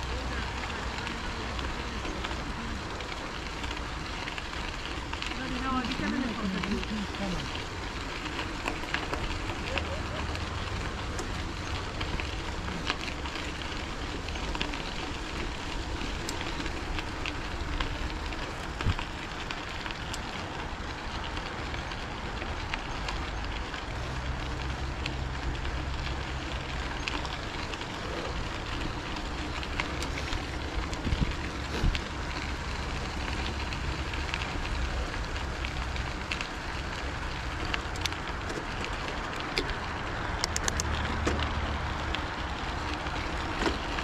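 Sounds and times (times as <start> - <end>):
bicycle tyre noise: 0.0 - 44.0
small clicks and rattles: 0.1 - 44.0
wind rumble on microphone: 8.1 - 43.9.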